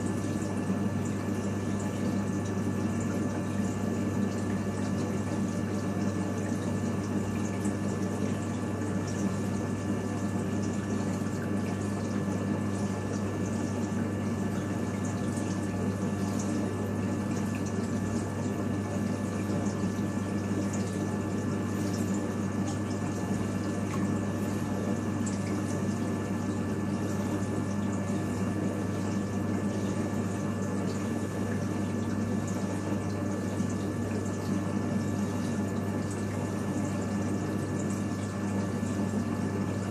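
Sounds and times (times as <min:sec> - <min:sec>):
aquarium pump hum: 0:00.0 - 0:39.9.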